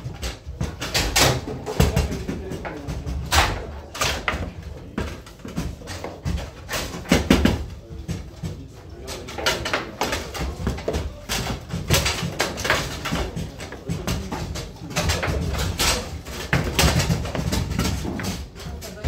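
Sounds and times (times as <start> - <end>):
table football ball and rods knocking: 0.0 - 19.0.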